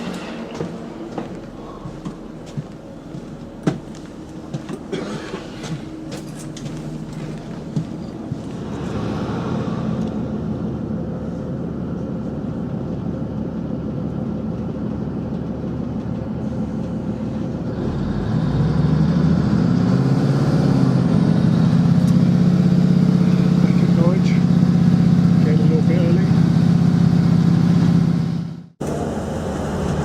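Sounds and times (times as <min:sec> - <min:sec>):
diesel train engine running: 0:00.0 - 0:30.0.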